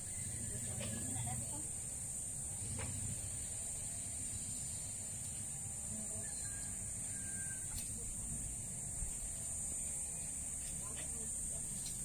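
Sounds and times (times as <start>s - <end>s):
high-pitched insect drone: 0.0s - 11.6s.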